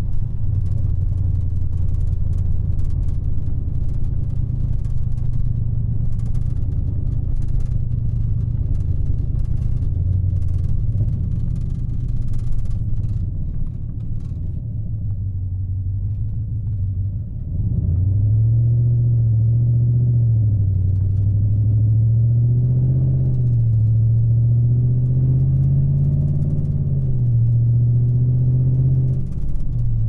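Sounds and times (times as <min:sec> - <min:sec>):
car engine drone from inside: 0:00.0 - 0:30.0.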